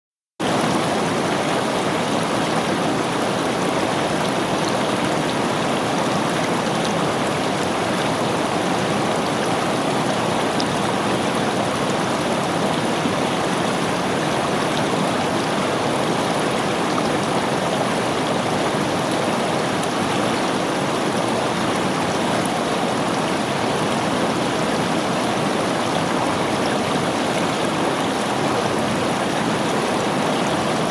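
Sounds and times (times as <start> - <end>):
river water flowing over rocks: 0.4 - 30.9.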